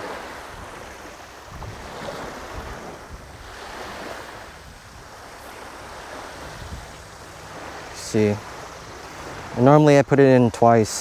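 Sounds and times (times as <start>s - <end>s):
waves washing on sandy shore: 0.0s - 11.0s
wind gusting on microphone: 0.0s - 11.0s.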